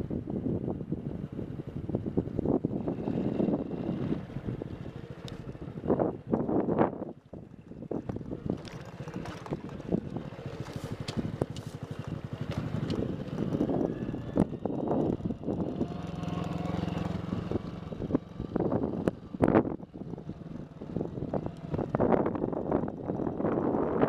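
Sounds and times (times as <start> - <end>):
small motorcycle engine running: 0.2 - 24.0.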